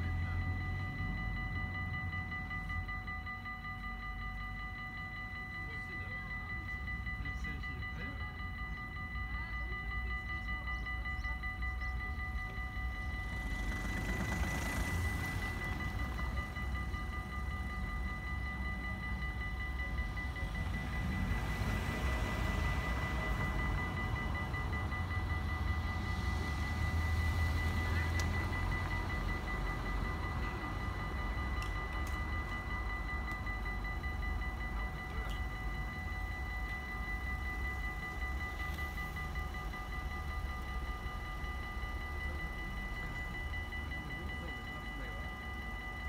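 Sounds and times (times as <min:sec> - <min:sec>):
level crossing bells ringing: 0:00.0 - 0:46.0.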